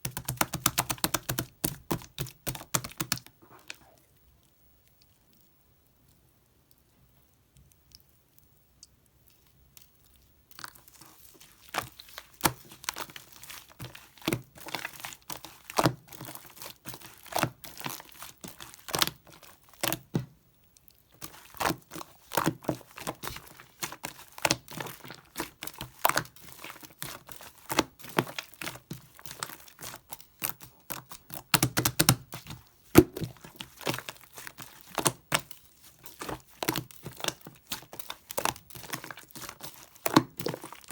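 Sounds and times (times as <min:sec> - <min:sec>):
sticky slime crackling and popping: 0:00.0 - 0:04.0, 0:10.4 - 0:40.9.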